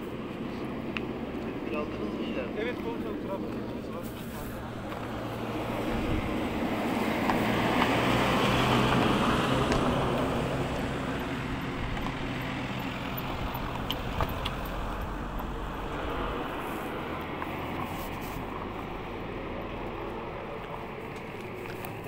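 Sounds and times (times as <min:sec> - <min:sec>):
vehicle engine and tyre noise: 0:00.0 - 0:22.0.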